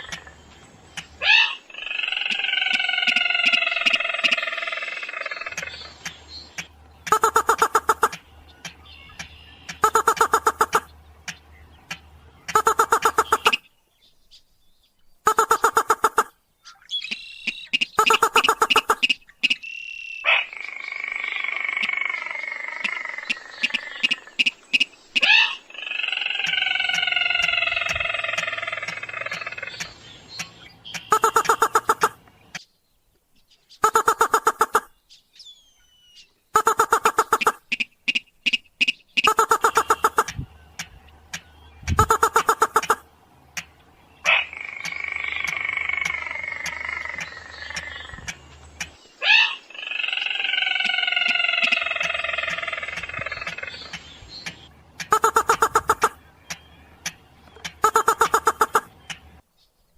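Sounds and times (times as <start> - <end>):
rail bird call rapid notes: 2.3 - 13.7, 15.3 - 16.3, 17.0 - 20.3, 22.8 - 32.2, 33.8 - 34.9, 36.5 - 49.6, 50.6 - 59.4.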